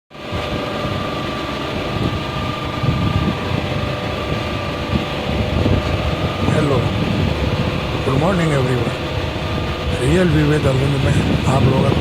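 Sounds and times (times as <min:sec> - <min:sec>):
steady machine hum: 0:00.1 - 0:12.0
thin whine: 0:00.1 - 0:12.0
uneven low rumble: 0:00.1 - 0:12.0.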